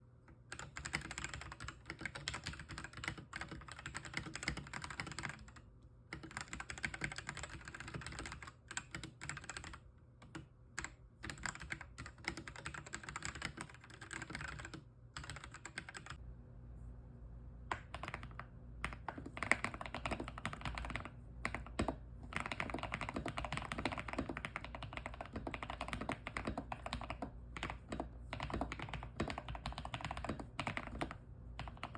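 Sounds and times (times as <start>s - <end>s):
mechanical keyboard typing: 0.5s - 16.2s, 17.7s - 31.9s.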